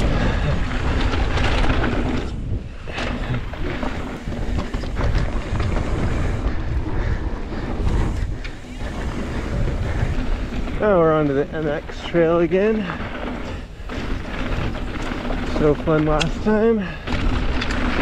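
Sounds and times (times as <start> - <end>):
bike knocking and rattling: 0.0 - 18.0
tyres rumbling on dirt and rock: 0.0 - 18.0
wind buffeting microphone: 0.0 - 18.0.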